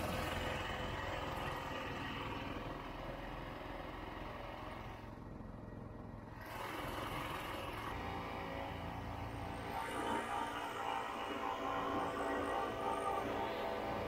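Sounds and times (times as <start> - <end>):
snowmobile two-stroke engine running: 0.0 - 14.0.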